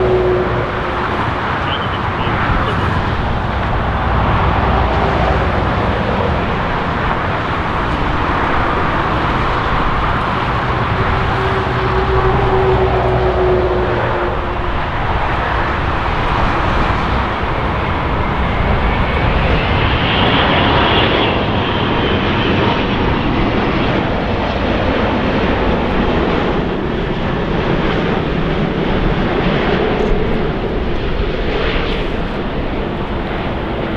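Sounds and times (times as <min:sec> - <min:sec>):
jet engine rumble with whine: 0:00.0 - 0:33.9.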